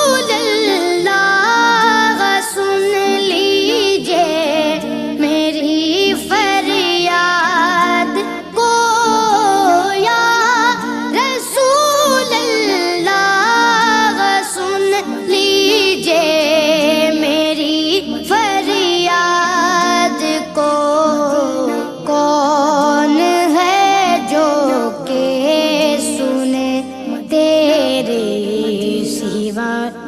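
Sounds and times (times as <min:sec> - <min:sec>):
woman singing: 0:00.0 - 0:30.0.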